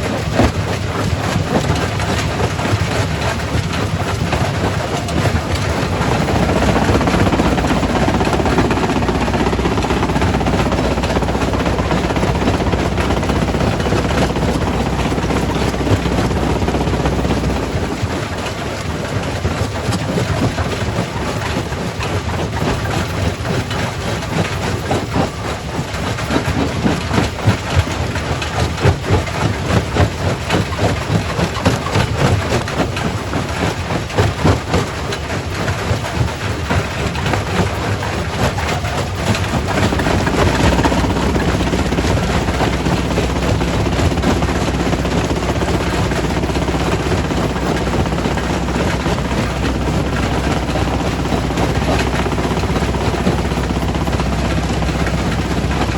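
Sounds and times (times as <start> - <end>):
heavy machinery running: 0.0 - 55.9.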